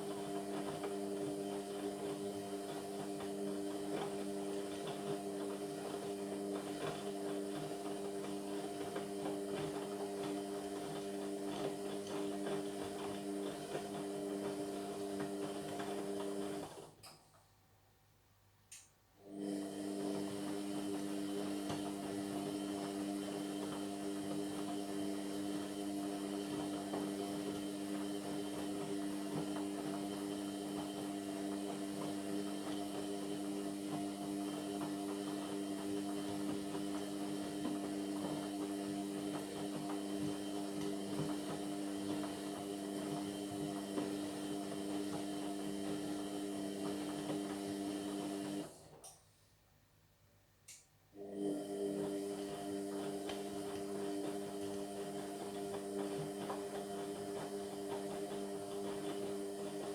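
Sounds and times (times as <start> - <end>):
washing machine humming: 0.0 - 17.0, 19.2 - 49.1, 51.2 - 59.9.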